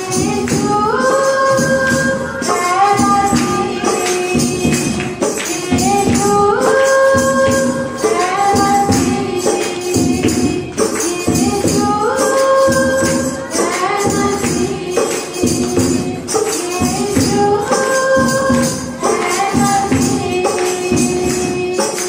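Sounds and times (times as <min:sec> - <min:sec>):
tambourine shaken and struck: 0:00.0 - 0:22.0
woman singing into microphone: 0:00.0 - 0:22.0.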